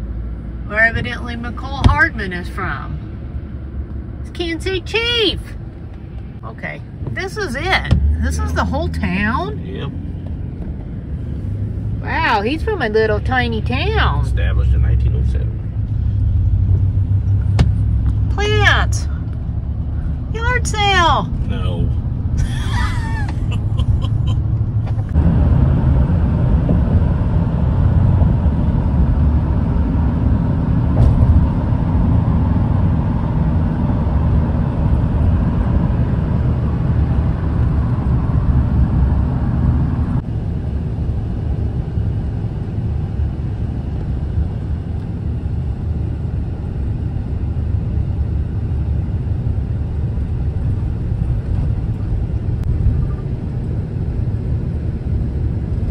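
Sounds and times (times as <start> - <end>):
vehicle road and engine rumble: 0.0 - 55.9.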